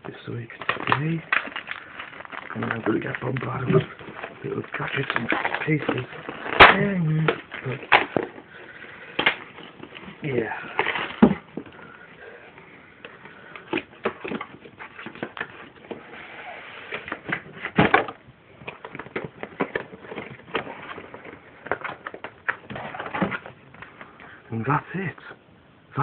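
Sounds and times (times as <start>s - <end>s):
packaging rustling and clicking: 0.3s - 24.4s.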